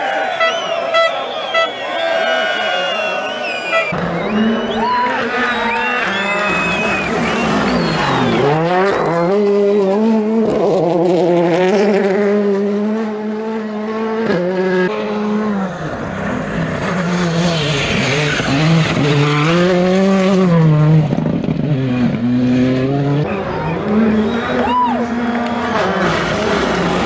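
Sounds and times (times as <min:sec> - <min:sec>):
rally car engines revving: 0:03.5 - 0:27.0.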